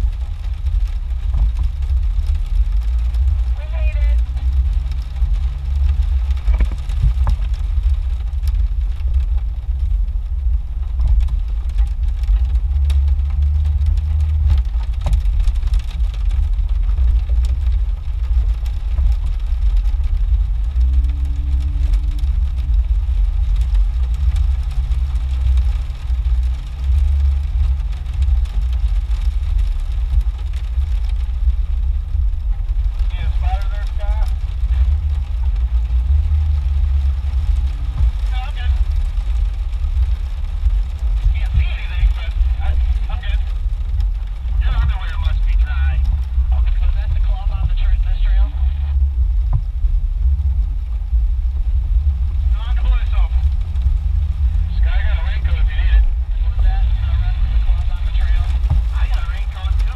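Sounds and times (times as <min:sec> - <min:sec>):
engine rumbling inside cab: 0:00.0 - 0:59.9.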